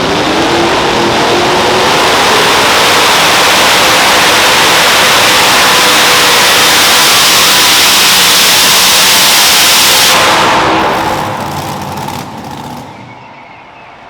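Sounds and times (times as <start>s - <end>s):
loud engine at full throttle: 0.0s - 13.4s.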